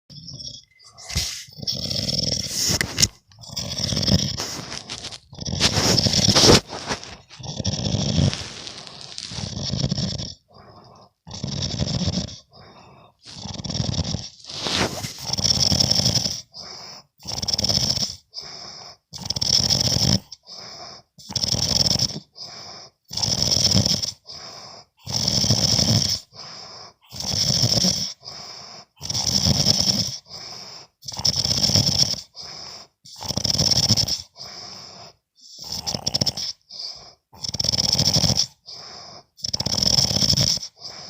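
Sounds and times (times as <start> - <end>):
person snoring: 0.1 - 41.0.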